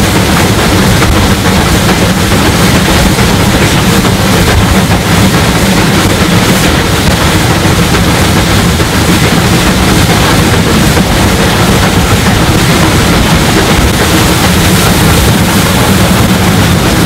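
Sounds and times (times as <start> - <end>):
low hum: 0.0 - 17.0
steam locomotive exhaust: 0.0 - 17.0.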